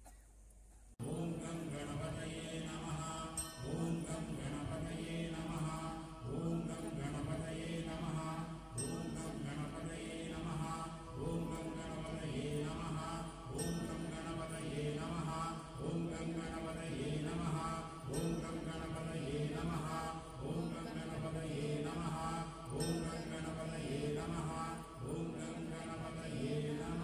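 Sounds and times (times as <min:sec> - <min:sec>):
mantra chanting: 0:01.0 - 0:27.0.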